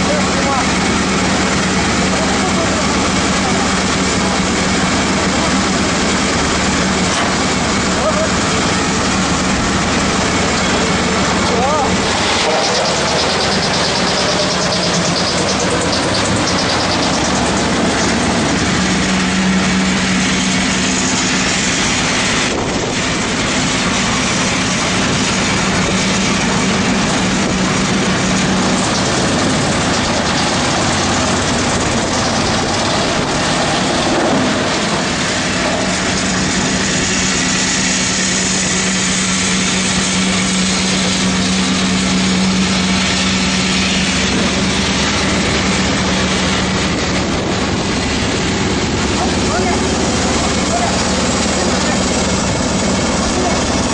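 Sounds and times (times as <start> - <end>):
low hum: 0.0 - 53.9
wood chipper droning: 0.0 - 53.9.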